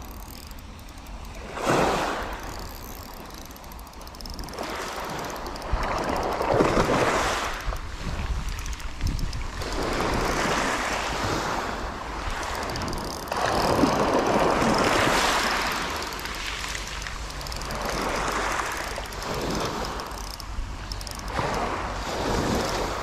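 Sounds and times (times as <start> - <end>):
wind rumbling on microphone: 0.0 - 23.0
small waves washing on shore: 1.3 - 3.4, 4.4 - 23.0.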